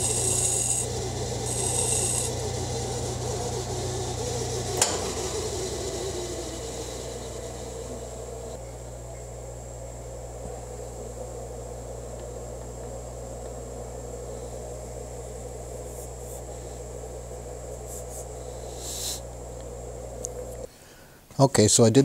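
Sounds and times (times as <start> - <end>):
lathe drive humming with whine: 0.0 - 20.7.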